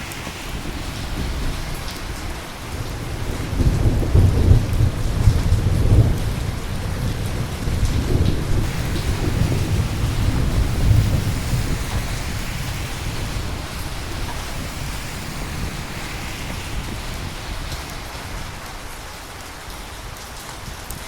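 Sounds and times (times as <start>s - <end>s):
thunder rumble: 0.0s - 20.4s
steady rain falling: 0.0s - 21.0s.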